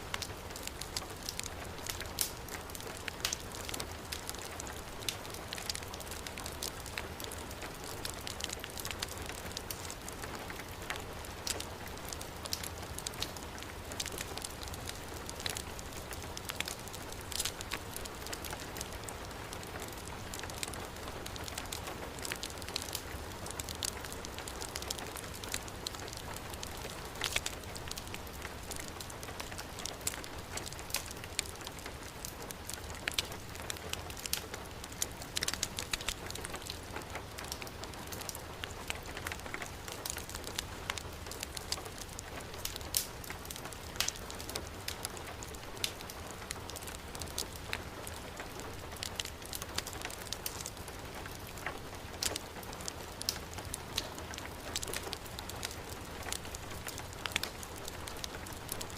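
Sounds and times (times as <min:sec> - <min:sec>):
wood fire crackling and popping: 0:00.1 - 0:58.9.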